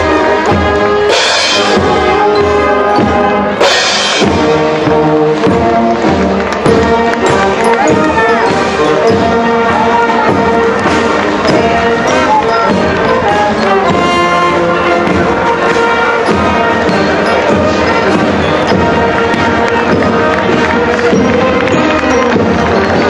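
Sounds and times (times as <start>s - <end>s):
brass band playing: 0.0s - 23.0s.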